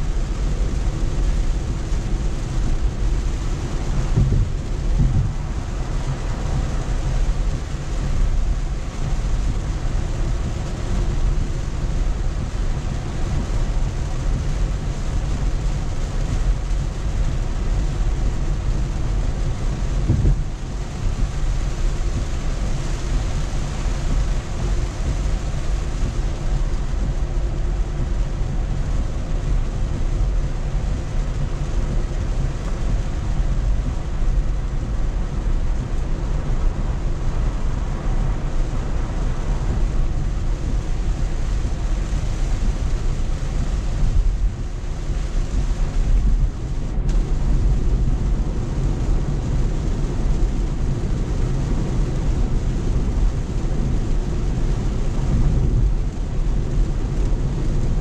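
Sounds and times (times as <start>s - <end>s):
rain hissing on car: 0.0s - 58.0s
tyres rumbling on wet road: 0.0s - 58.0s.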